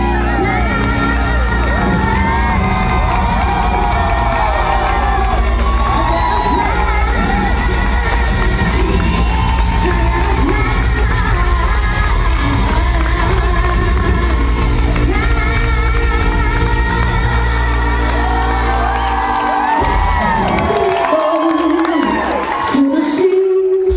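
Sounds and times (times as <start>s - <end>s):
heavy bass: 0.0s - 23.9s
woman singing: 0.0s - 23.9s.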